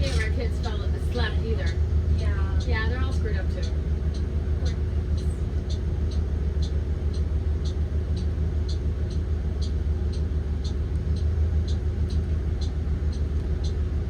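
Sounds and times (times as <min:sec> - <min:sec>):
bus engine rumbling: 0:00.0 - 0:14.0
light even ticking: 0:00.0 - 0:14.0.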